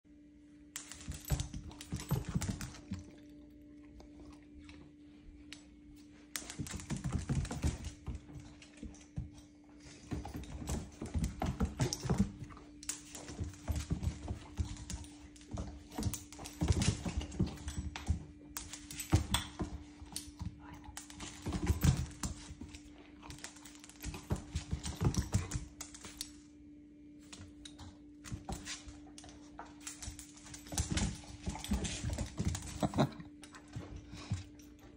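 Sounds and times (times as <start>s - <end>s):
dog claws clicking on hard floor: 0.8s - 3.3s, 6.3s - 26.4s, 27.3s - 34.9s.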